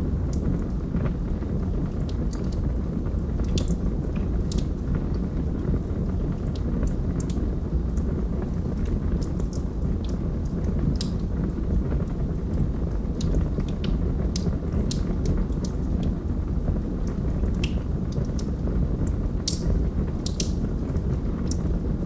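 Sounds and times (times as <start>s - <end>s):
low rumble of flame: 0.0s - 22.0s
wood fire crackling and popping: 0.0s - 22.0s.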